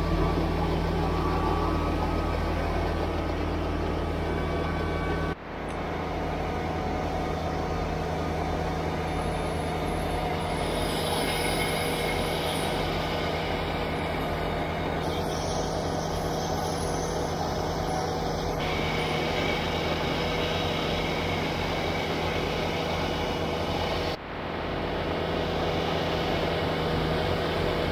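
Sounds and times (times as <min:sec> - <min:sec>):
diesel tractor engine running: 0:00.0 - 0:27.9.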